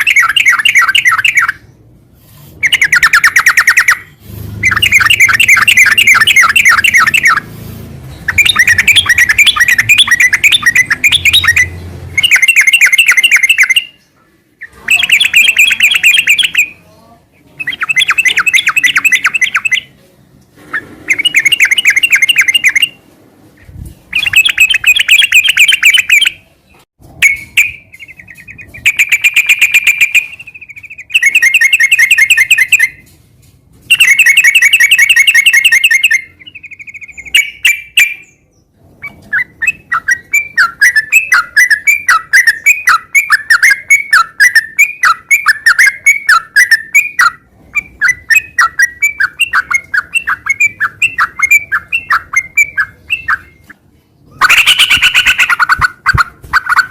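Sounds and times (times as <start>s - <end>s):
bird whistle: 0.0s - 1.7s, 2.6s - 7.5s, 8.2s - 14.0s, 14.6s - 16.8s, 17.6s - 20.0s, 21.0s - 23.0s, 24.1s - 26.4s, 27.2s - 33.1s, 33.9s - 38.4s, 39.0s - 53.7s, 54.3s - 56.9s
bird chattering song: 0.0s - 20.0s, 20.7s - 23.0s, 23.6s - 33.1s, 33.9s - 56.9s.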